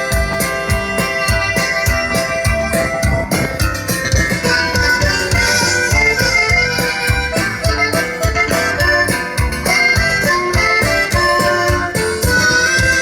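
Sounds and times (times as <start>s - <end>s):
band playing live: 0.0s - 13.0s
drums beating: 0.0s - 13.0s
reedy melody: 0.0s - 13.0s.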